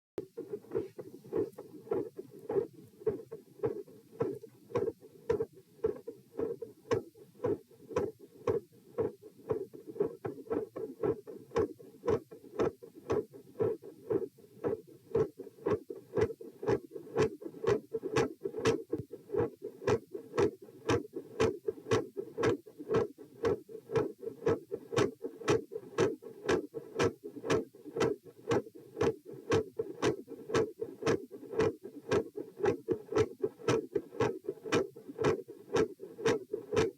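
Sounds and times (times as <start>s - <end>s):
heartbeat through stethoscope: 0.2s - 36.9s.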